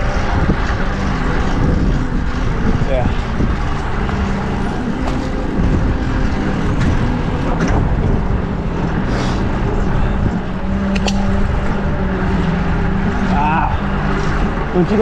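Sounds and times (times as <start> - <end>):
vehicle engine hum: 0.0 - 15.0
wind rushing over microphone: 0.0 - 15.0.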